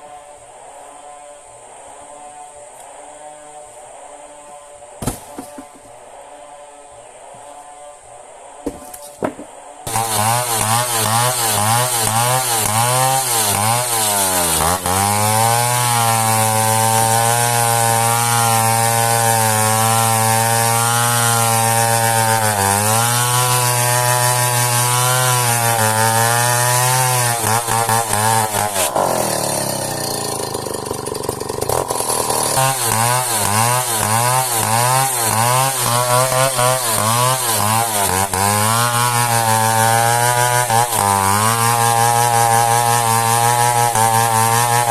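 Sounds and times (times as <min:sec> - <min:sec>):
chainsaw cutting wood: 0:05.0 - 0:05.9, 0:08.7 - 0:44.9.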